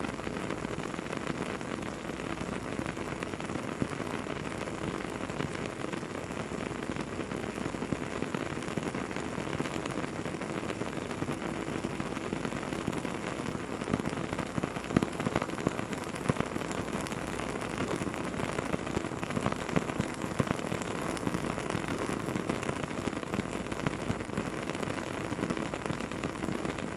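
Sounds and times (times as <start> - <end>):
campfire crackling and popping: 0.2 - 26.9.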